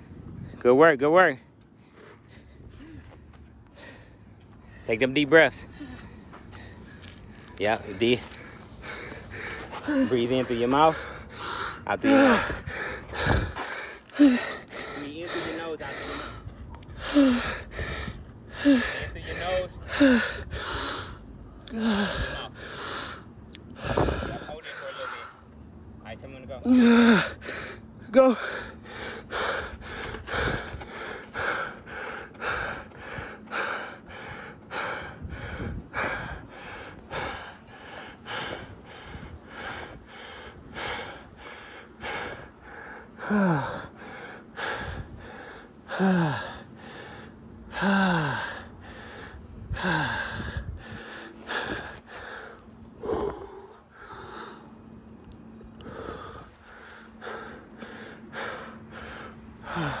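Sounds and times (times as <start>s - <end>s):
faint steady hum: 0.0s - 60.0s
person panting heavily: 1.7s - 25.5s, 26.6s - 54.8s, 55.7s - 60.0s.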